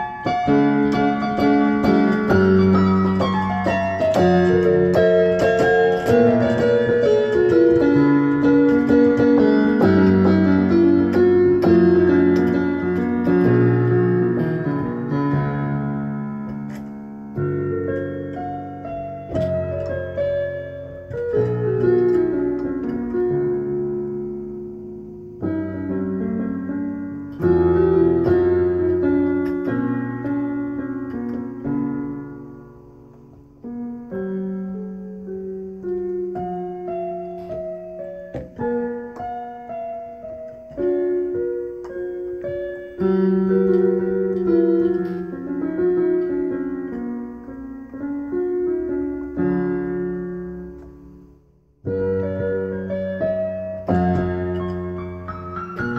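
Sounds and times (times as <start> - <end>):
slow solo piano chords: 0.0 - 55.9.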